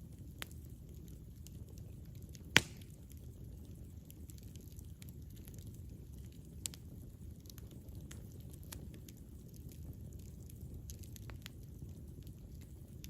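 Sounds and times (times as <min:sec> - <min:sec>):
fire flames rumbling: 0:00.0 - 0:13.0
fire popping: 0:00.0 - 0:13.0
wood crackling: 0:00.3 - 0:13.0.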